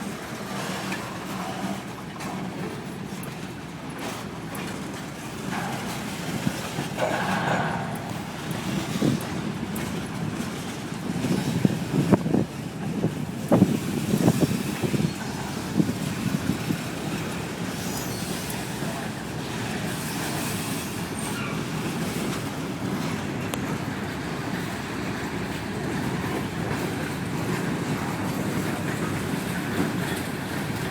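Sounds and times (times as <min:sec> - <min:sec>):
freight train rumbling on rails: 0:00.0 - 0:30.9
train wheels knocking: 0:03.8 - 0:30.9.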